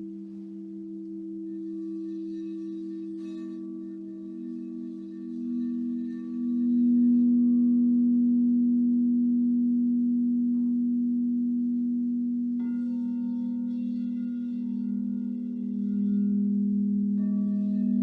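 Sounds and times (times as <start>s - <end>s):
singing bowl low steady tone: 0.0s - 18.0s
singing bowl struck ringing: 0.0s - 18.0s.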